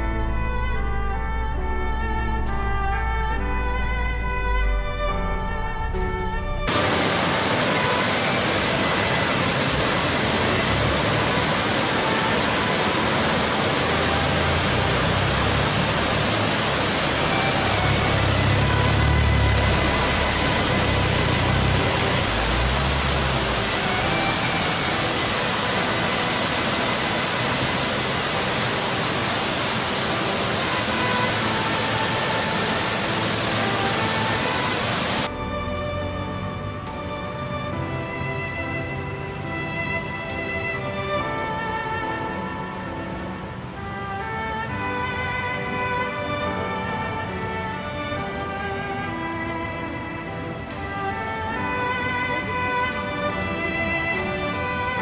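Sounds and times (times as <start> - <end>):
background music of held notes: 0.0 - 55.0
stream rushing over rocks: 6.7 - 55.0.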